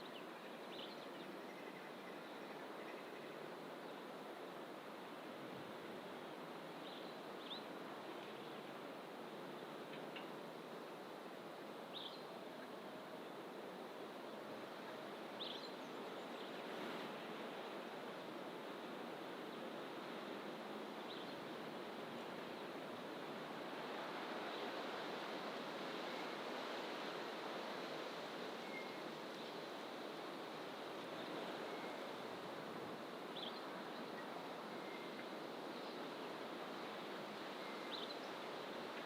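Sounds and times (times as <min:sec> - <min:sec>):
distant ocean surf: 0:02.6 - 0:39.0.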